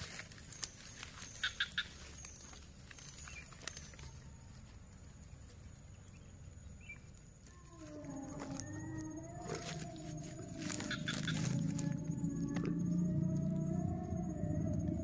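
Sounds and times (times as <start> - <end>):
handling clicks and rustles: 0.0 - 12.8.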